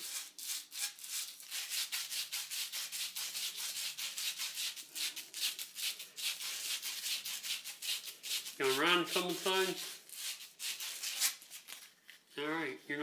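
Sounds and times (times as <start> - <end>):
sandpaper rasping on pipe: 0.0 - 11.6.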